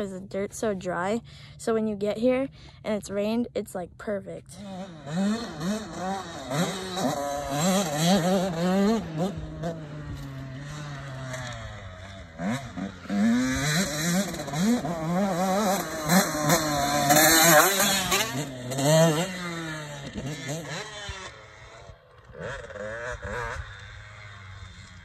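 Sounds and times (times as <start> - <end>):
dirt bike engine revving: 2.8 - 25.0.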